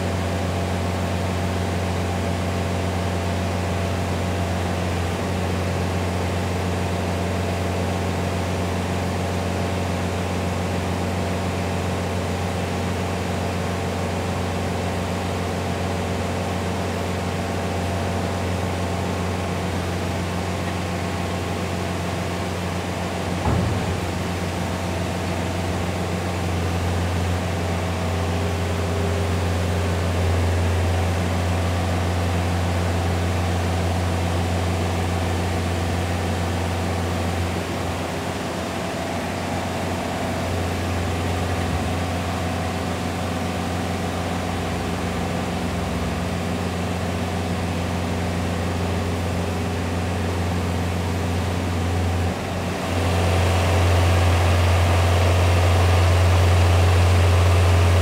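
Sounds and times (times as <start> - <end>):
deep engine drone: 0.0 - 58.0.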